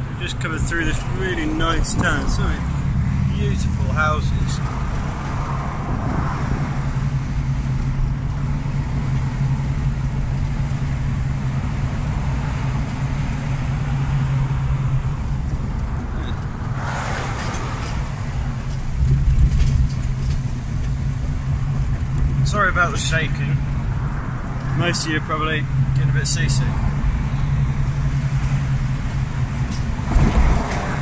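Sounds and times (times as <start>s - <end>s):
car engine and tyre drone: 0.0s - 31.0s.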